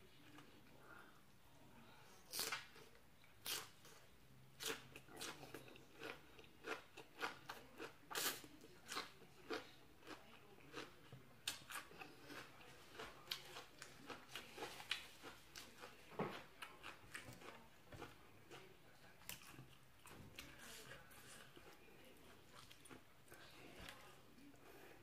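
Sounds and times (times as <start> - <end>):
person chewing food: 2.3 - 24.5.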